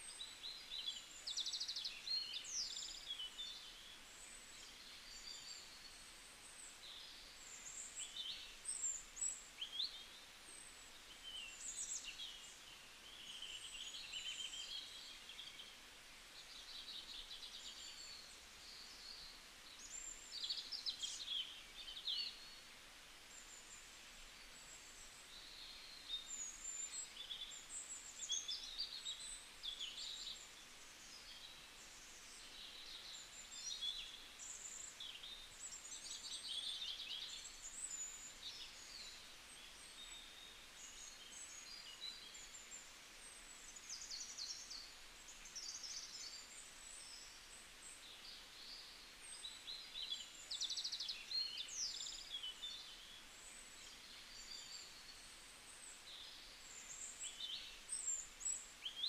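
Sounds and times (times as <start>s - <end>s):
faint background hiss: 0.0s - 59.0s
small birds chirping and twittering: 0.0s - 59.0s.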